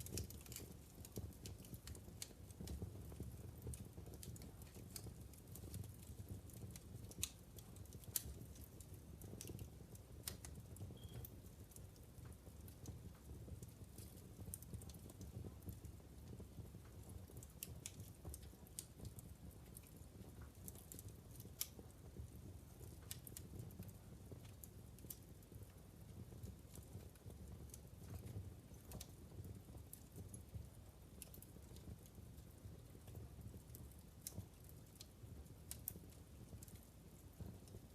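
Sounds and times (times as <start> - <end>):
fire crackling and popping: 0.0 - 37.9
low rumble of burning logs: 0.0 - 37.9.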